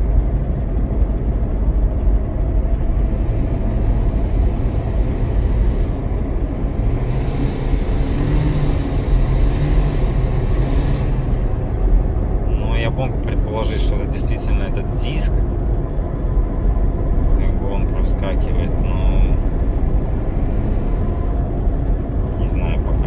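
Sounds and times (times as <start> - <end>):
car cabin road rumble: 0.0 - 23.0
low droning hum: 0.0 - 23.0.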